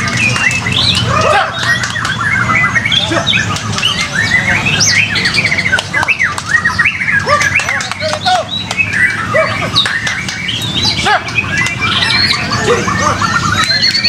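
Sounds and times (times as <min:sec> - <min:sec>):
birds singing in chorus: 0:00.0 - 0:14.0.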